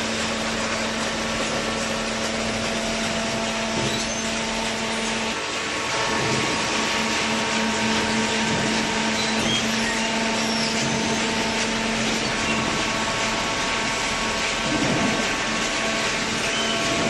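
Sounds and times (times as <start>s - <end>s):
hydraulic baler humming: 0.0s - 17.0s.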